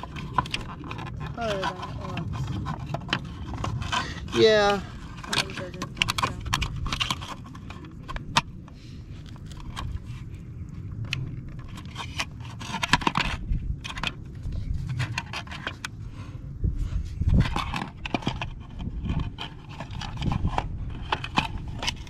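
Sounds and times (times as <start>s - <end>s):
plastic scraping and rubbing: 0.0s - 16.0s, 17.1s - 22.0s
sharp clicks and rattles: 0.0s - 16.0s, 17.3s - 22.0s.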